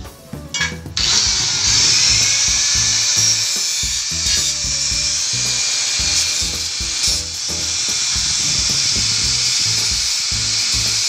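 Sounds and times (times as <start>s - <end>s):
background music with steady beat: 0.0s - 11.0s
angle grinder grinding steel: 0.6s - 11.0s.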